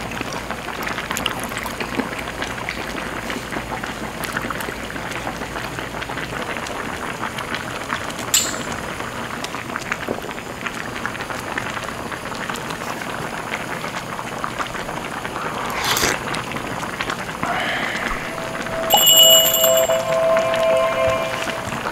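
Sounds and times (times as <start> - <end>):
stew bubbling in a pan: 0.0 - 18.4.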